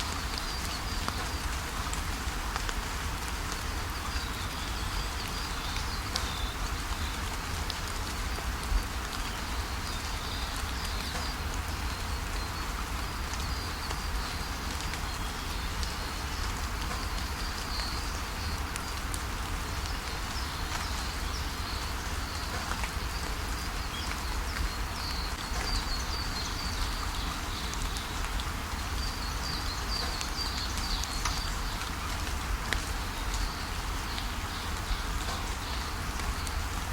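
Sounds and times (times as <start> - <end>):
rain falling: 0.0 - 36.9
small birds chirping: 3.5 - 36.9.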